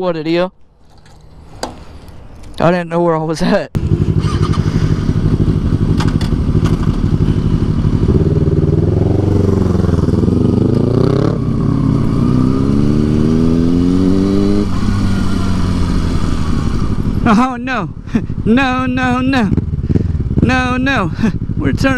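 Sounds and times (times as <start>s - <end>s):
motorcycle engine accelerating: 3.8s - 21.9s.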